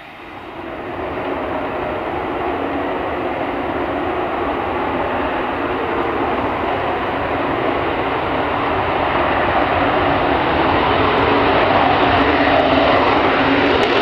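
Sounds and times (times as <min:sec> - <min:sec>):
jet engine roaring at takeoff: 0:00.0 - 0:14.0.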